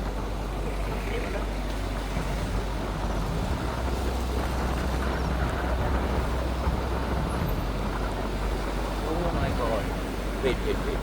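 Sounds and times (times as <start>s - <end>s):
road noise hiss: 0.0s - 11.0s
vehicle engine rumble: 0.0s - 11.0s.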